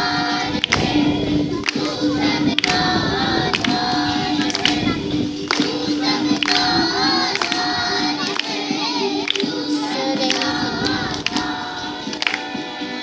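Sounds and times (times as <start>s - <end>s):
sharp beat: 0.0s - 12.8s
children singing in unison: 0.0s - 13.0s.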